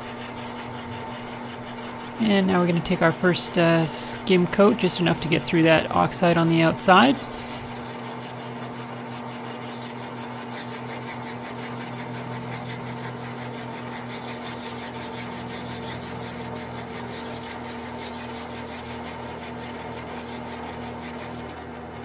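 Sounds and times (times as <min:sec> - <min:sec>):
metal lathe humming: 0:00.0 - 0:22.0.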